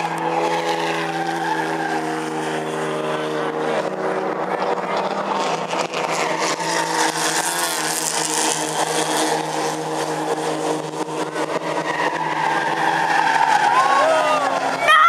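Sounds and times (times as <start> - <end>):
race car engine at speed: 0.0 - 15.0.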